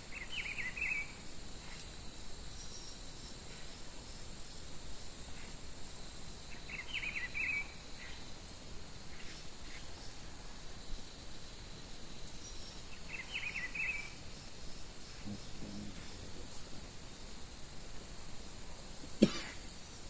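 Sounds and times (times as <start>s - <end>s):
high insect trill: 0.0s - 20.0s
outdoor background hiss: 0.0s - 20.0s
songbird singing: 0.0s - 20.0s.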